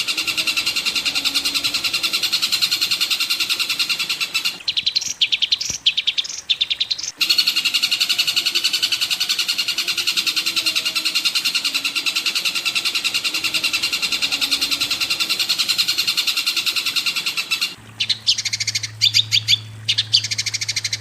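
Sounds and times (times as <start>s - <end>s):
higher bird calls: 0.0s - 21.0s
songbird chattering trill: 0.0s - 21.0s.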